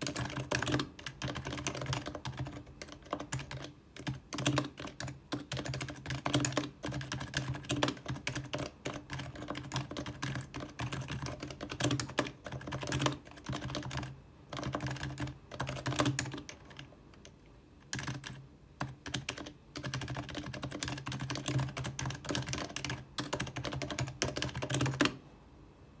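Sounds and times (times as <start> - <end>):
typing on a quiet keyboard: 0.0 - 25.2.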